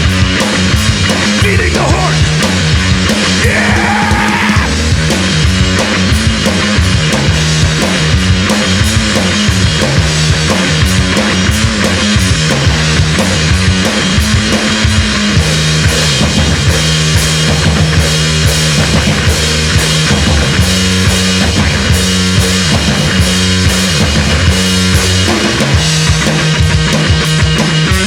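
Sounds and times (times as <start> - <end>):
bass riff: 0.0 - 28.0
distorted electric guitars: 0.0 - 28.0
drum kit: 0.0 - 28.0.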